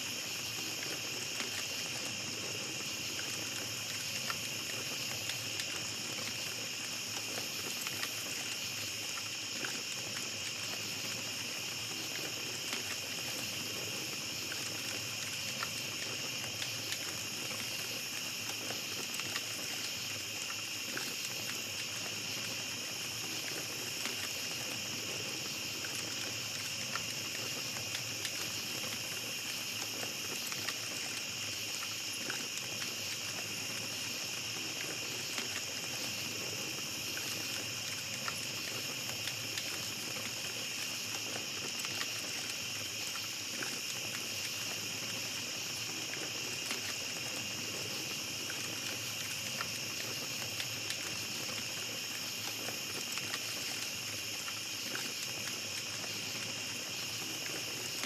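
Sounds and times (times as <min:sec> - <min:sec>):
campfire crackling: 0:00.0 - 0:58.0
night insects chorus: 0:00.0 - 0:58.0.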